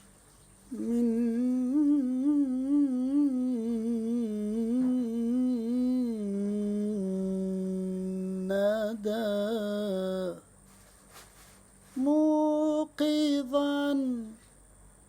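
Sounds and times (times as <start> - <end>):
man chanting unaccompanied: 0.7 - 10.5, 11.9 - 14.5.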